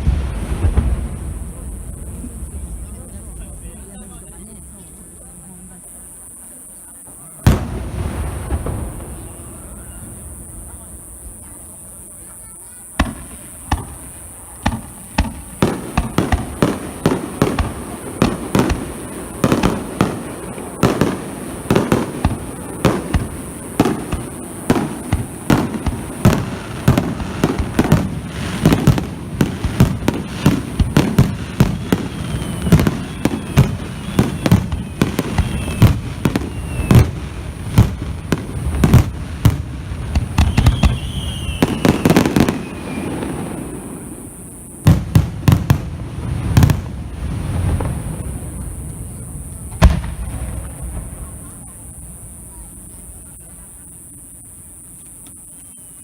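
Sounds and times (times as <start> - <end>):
fireworks bursting: 0.0 - 56.0
whistling firework shells: 6.5 - 56.0.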